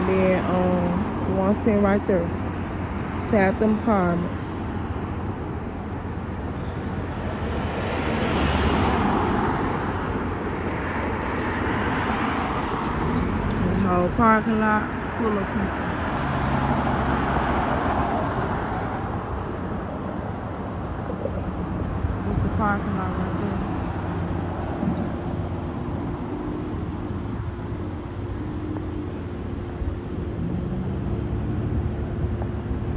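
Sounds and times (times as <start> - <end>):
engine hum: 0.0 - 32.9
traffic rumble: 0.0 - 32.9
vehicle passing on road: 0.0 - 32.9.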